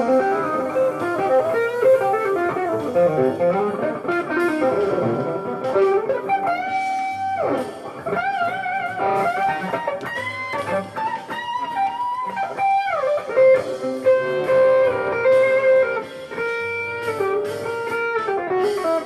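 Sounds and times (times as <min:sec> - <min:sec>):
jazz fusion electric guitar lead: 0:00.0 - 0:19.0.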